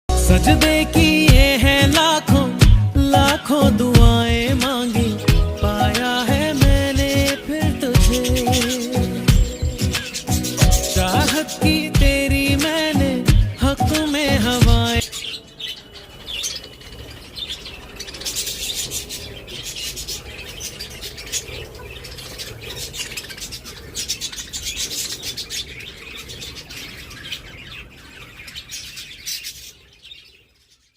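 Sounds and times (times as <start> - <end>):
budgerigars chattering and chirping: 0.4 - 30.9.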